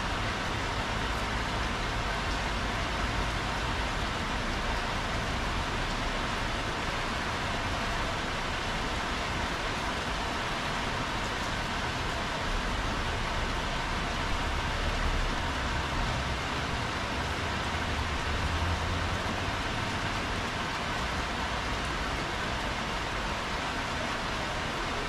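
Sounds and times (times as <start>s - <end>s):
heavy rain on paving: 0.0s - 25.0s.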